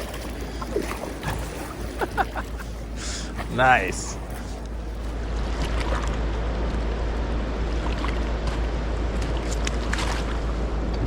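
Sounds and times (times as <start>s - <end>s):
river water: 0.0s - 11.0s.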